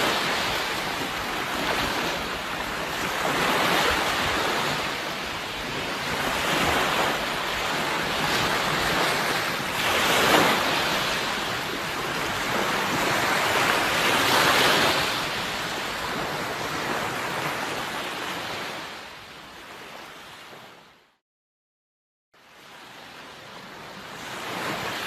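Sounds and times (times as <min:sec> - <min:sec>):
sea waves breaking: 0:00.0 - 0:20.9, 0:22.5 - 0:25.0.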